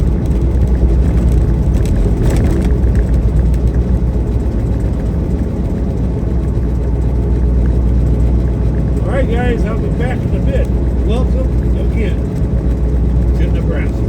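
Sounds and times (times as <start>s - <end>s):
road noise: 0.0s - 14.0s
truck engine rumble: 0.0s - 14.0s.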